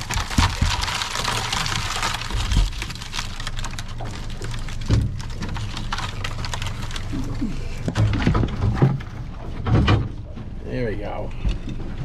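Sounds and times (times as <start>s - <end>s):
crabs scrabbling in plastic crate: 0.0s - 10.3s
steady low hum: 0.0s - 12.0s.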